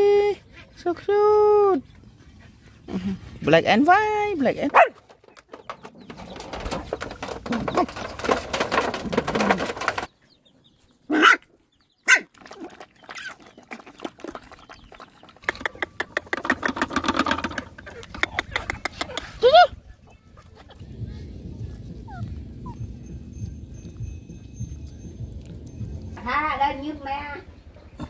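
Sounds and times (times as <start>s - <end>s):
puppies eating and lapping: 0.0s - 10.9s, 11.5s - 28.0s.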